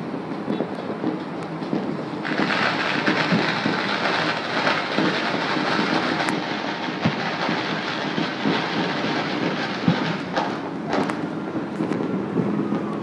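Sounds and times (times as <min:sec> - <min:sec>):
distant firecrackers crackling: 0:00.0 - 0:13.0.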